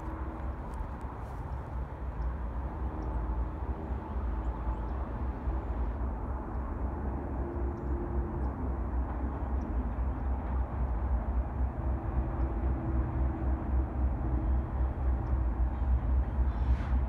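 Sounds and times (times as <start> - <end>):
distant diesel locomotive rumble: 0.0 - 17.0.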